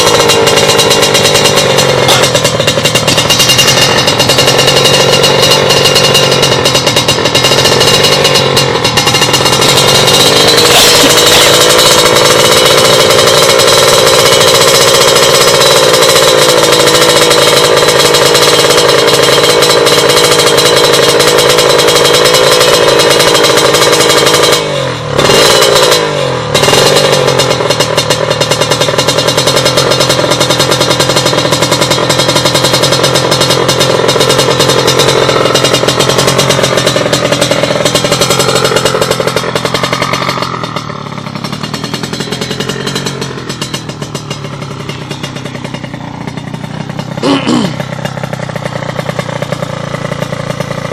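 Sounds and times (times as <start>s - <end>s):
motorcycle engine revving high: 0.0s - 50.9s.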